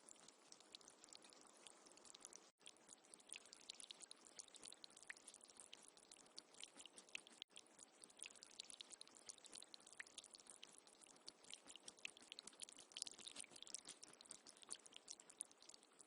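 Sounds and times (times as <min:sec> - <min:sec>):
soft hiss: 0:00.0 - 0:16.0
tiny water drips: 0:00.0 - 0:16.0.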